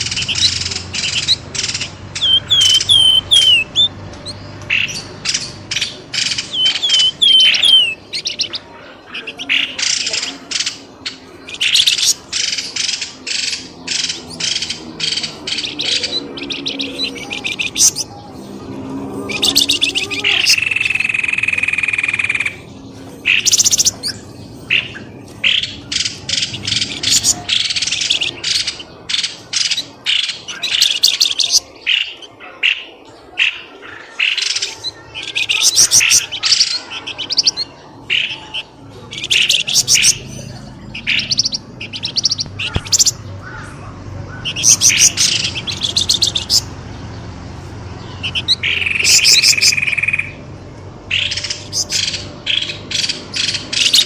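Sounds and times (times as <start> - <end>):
bird chirping sharply: 0.0 - 43.4, 44.3 - 46.7, 48.0 - 50.5.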